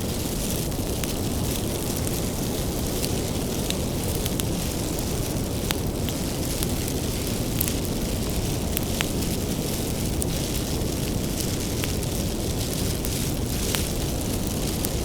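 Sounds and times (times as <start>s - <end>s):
bonfire flames rumbling: 0.0s - 15.0s
firewood crackling and popping: 0.0s - 15.0s.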